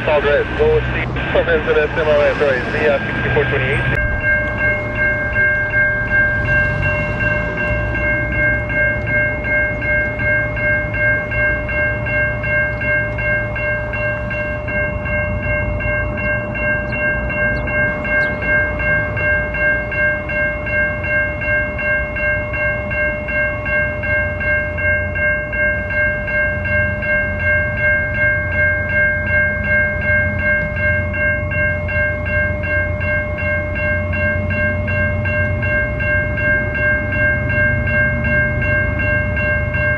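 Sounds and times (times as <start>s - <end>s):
level-crossing warning bell ringing: 0.0s - 39.9s
low rumble of a train: 0.0s - 39.9s.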